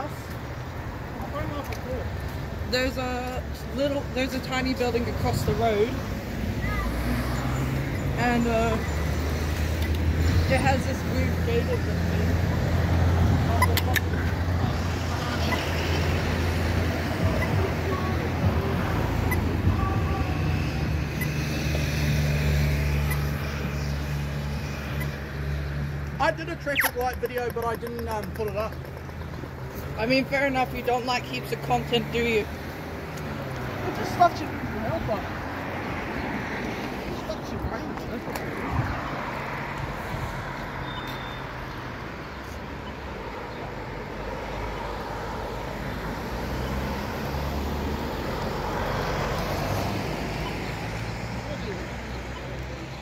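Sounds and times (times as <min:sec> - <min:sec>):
cars driving past: 0:00.0 - 0:53.0
road traffic rumble: 0:00.0 - 0:53.0.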